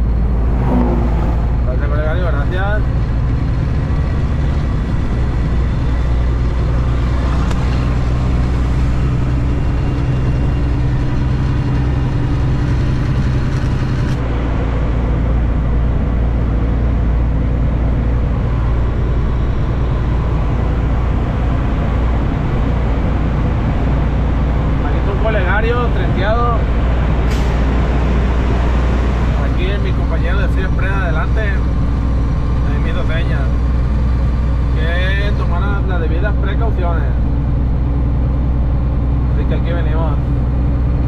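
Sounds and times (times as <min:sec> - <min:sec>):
diesel truck engine running: 0:00.0 - 0:41.0
tyre and road noise: 0:00.0 - 0:41.0.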